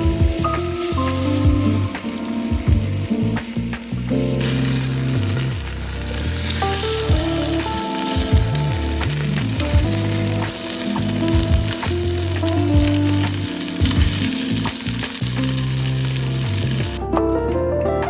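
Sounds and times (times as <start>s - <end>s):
food sizzling in a pan: 0.0s - 17.0s
soft background music: 0.0s - 18.0s.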